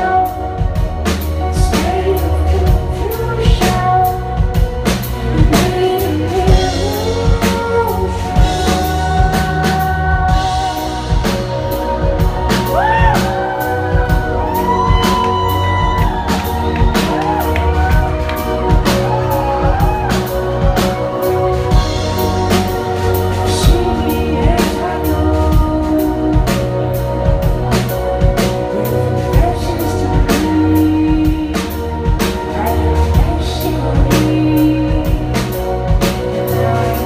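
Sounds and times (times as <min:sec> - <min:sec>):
drum kit beat: 0:00.0 - 0:37.0
live band music: 0:00.0 - 0:37.0
woman singing gliding notes: 0:00.0 - 0:37.0.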